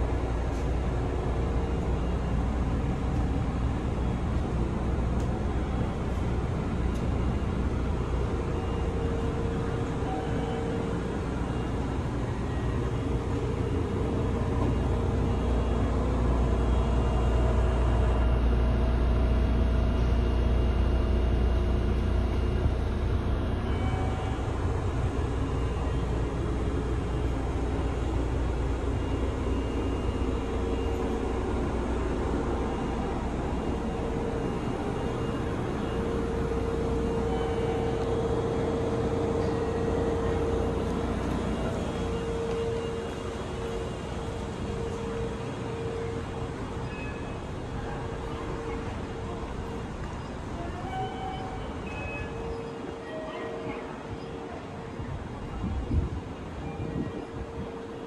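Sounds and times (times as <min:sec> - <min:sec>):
train machinery hum: 0:00.0 - 0:58.0.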